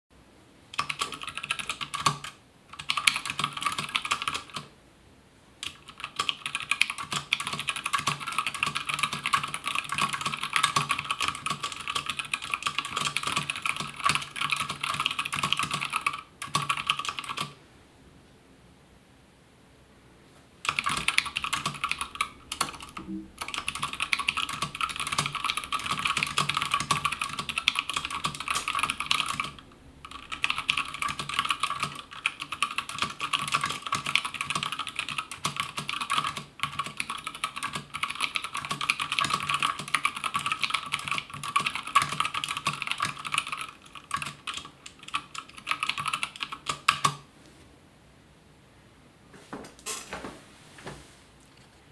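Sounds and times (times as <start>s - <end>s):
mechanical keyboard typing: 0.7s - 4.7s, 5.6s - 17.6s, 20.6s - 47.2s.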